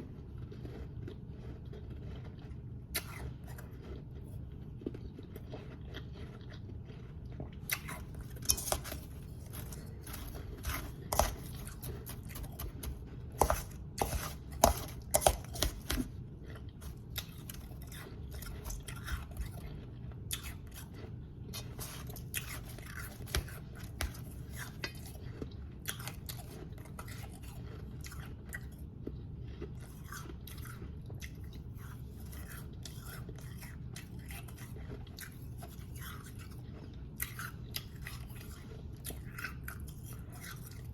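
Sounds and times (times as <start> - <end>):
chewing crunchy ice: 0.0 - 40.9
low steady hum: 0.0 - 40.9.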